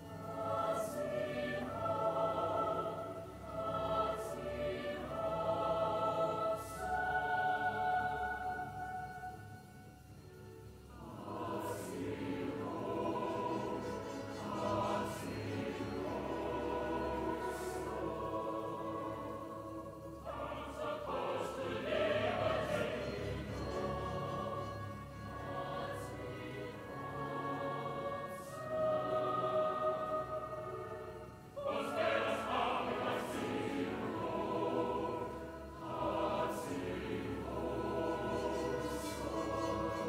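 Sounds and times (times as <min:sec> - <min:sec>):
children's choir singing: 0:00.0 - 0:10.0, 0:10.9 - 0:40.0
mixed choir singing with orchestra: 0:00.0 - 0:40.0.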